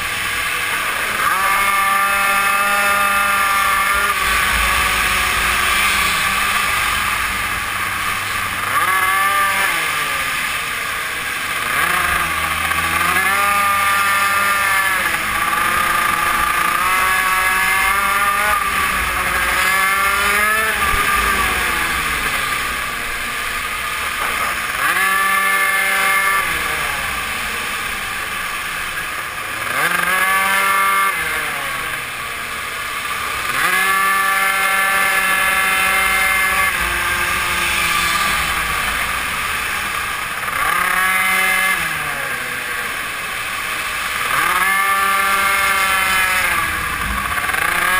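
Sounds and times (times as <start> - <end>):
mini moto engine revving: 0.0 - 47.9.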